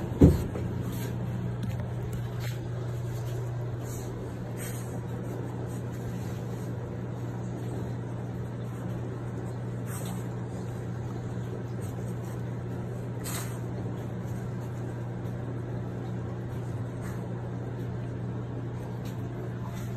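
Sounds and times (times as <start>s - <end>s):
low mechanical hum: 0.0s - 19.9s.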